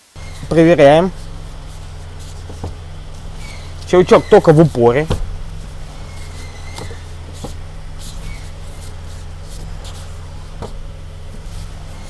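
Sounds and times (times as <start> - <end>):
steady low hum: 0.0 - 12.0
steering clicks: 0.0 - 12.0.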